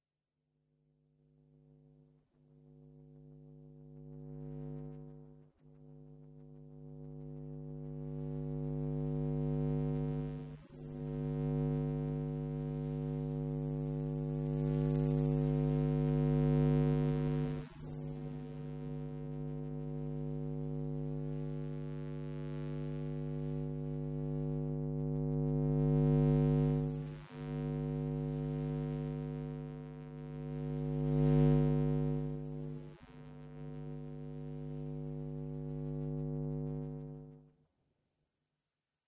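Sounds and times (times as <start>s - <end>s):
power supply electromagnetic hum: 0.9s - 37.6s.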